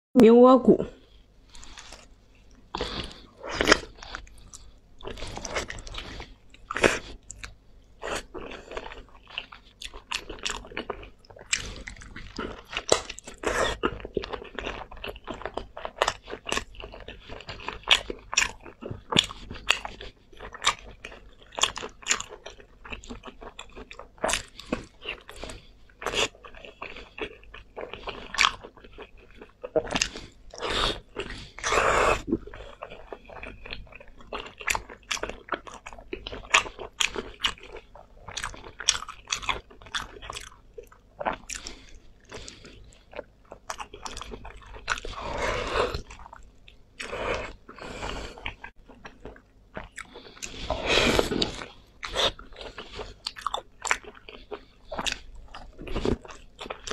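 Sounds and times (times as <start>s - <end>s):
crunching and chewing meat: 1.3s - 56.9s.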